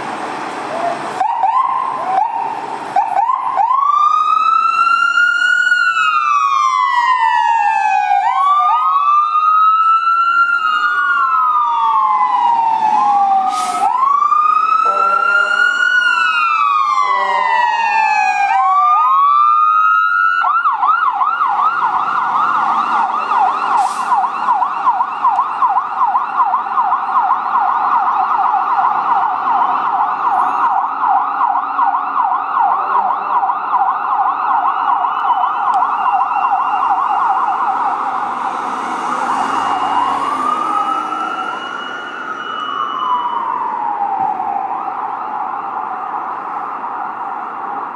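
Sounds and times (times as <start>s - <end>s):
fire truck siren wailing and yelping: 0.0s - 47.9s.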